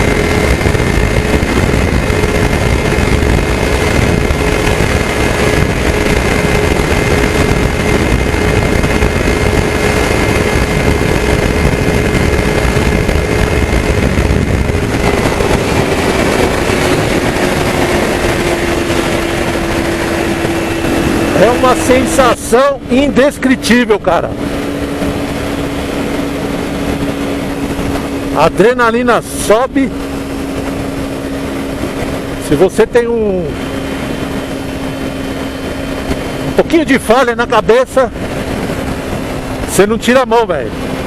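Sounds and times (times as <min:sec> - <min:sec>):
motorcycle engine running: 0:00.0 - 0:41.0
wind rush: 0:00.0 - 0:41.0.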